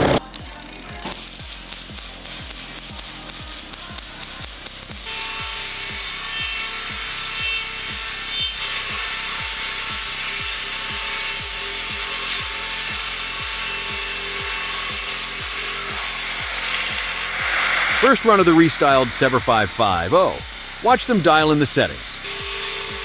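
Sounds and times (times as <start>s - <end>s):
music with deep thumping beat: 0.0s - 23.0s
wood-cutting machinery hiss: 1.1s - 23.0s.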